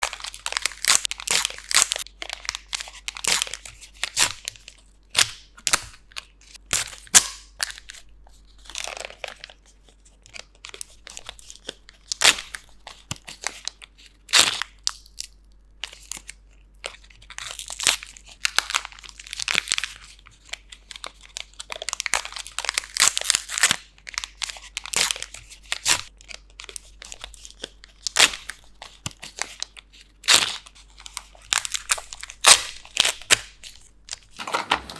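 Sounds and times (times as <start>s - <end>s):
wrapping crinkling and tearing: 0.0s - 34.9s.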